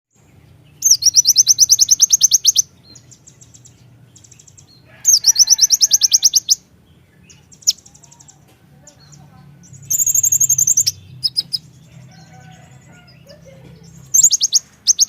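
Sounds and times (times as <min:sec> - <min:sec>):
sunbird trilling: 0:00.3 - 0:15.0.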